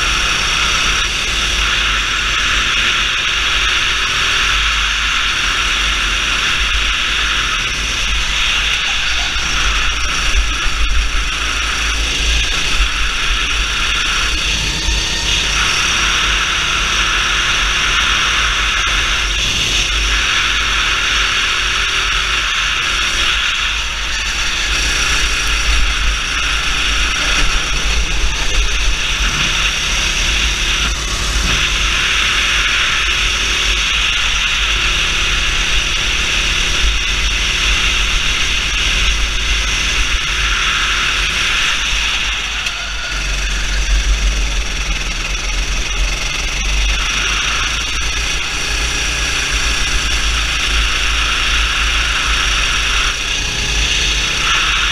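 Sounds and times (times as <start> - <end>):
kart engine racing: 0.0 - 54.9.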